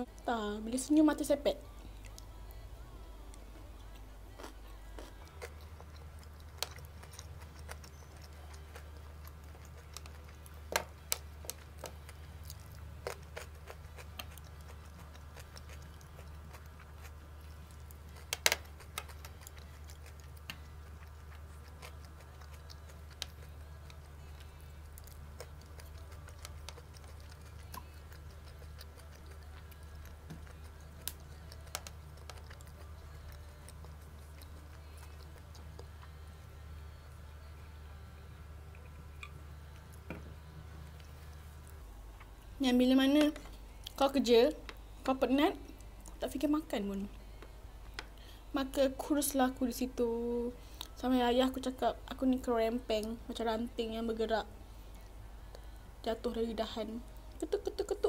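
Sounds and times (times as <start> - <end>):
chewing food: 0.0 - 49.7
steady low hum: 0.0 - 58.0.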